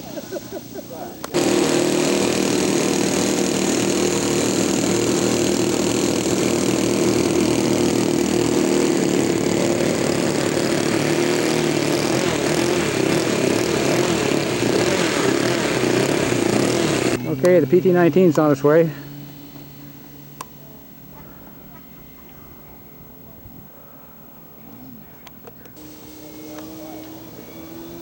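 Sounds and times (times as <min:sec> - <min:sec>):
model airplane engine and propeller: 0:01.2 - 0:23.5, 0:24.7 - 0:28.0.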